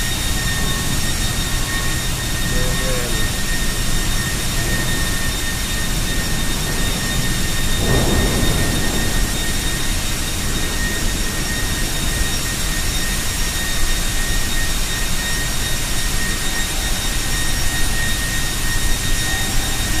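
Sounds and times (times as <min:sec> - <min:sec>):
furnace heavy roar: 0:00.0 - 0:20.0
high-pitched whine: 0:00.0 - 0:20.0.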